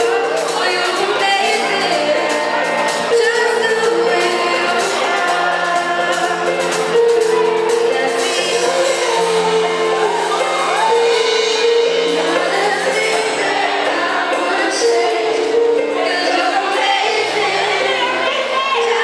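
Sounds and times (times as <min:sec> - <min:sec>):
group of voices singing: 0:00.0 - 0:19.0
live band playing: 0:00.0 - 0:19.0.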